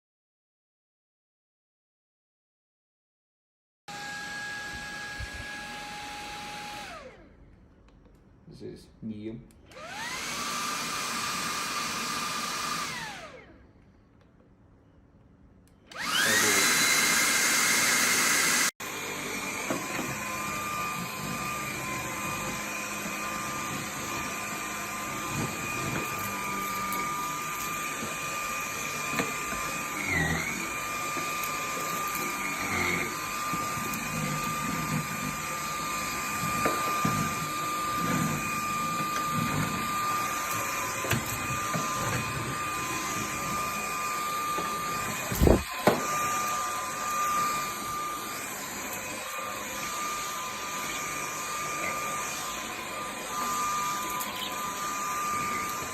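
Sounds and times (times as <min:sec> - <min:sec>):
vacuum motor whining: 0:03.9 - 0:07.3, 0:09.7 - 0:13.6, 0:15.9 - 0:55.9.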